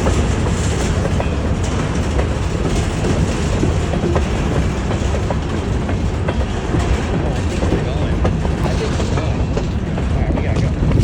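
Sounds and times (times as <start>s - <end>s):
train wheels rumbling on rail: 0.0s - 11.0s
wheels clicking over track: 0.0s - 11.0s.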